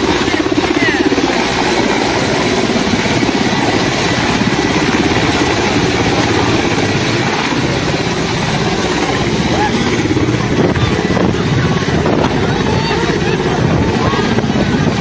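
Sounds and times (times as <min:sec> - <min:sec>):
helicopter rotor chopping: 0:00.0 - 0:15.0
turbine noise: 0:00.0 - 0:15.0.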